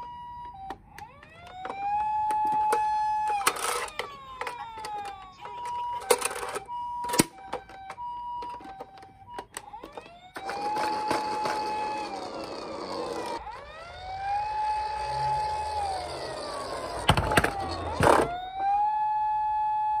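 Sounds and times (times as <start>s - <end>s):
toy electronic siren: 0.0s - 20.0s.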